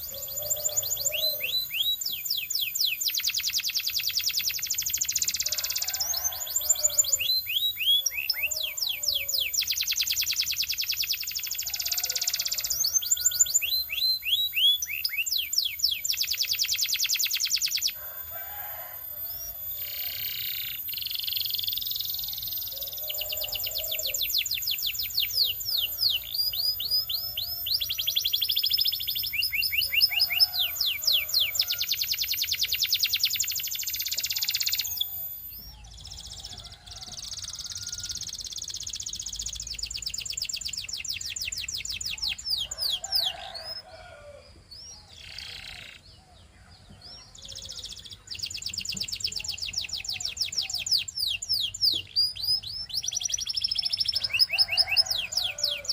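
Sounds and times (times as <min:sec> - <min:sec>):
canary singing trills: 0:00.0 - 0:55.9.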